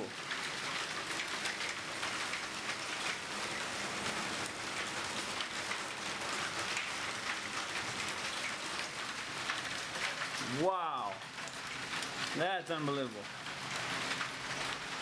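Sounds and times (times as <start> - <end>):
hail and rain pelting a roof: 0.0 - 15.0.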